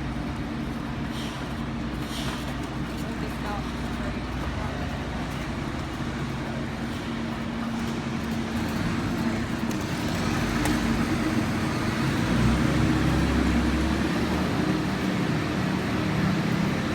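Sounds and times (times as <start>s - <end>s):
traffic engines humming: 0.0s - 16.9s.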